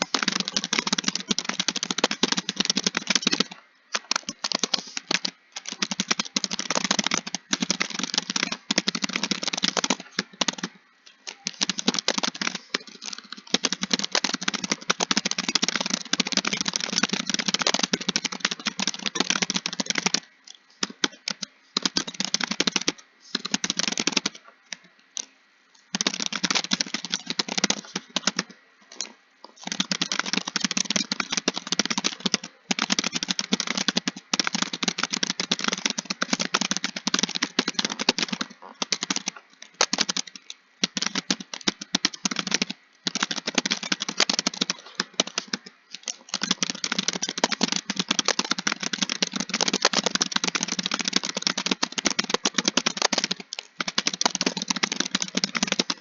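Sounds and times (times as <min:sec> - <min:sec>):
fast typing on keyboard: 0:00.0 - 0:25.3, 0:25.9 - 0:56.0.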